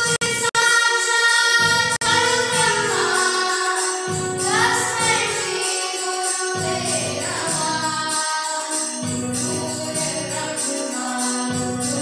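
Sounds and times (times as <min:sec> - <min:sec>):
electronic keyboard: 0:00.0 - 0:12.0
jingling percussion beat: 0:00.0 - 0:12.0
children singing in unison: 0:00.5 - 0:12.0.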